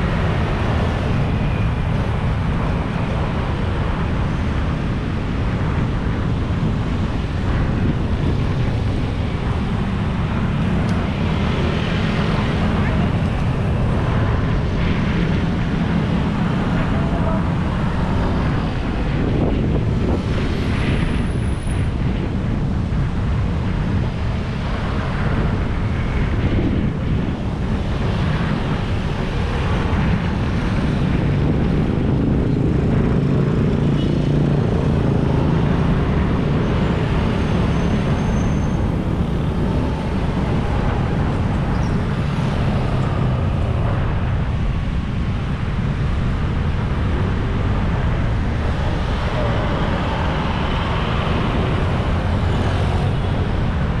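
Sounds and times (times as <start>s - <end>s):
scooters and cars passing: 0.0s - 54.0s.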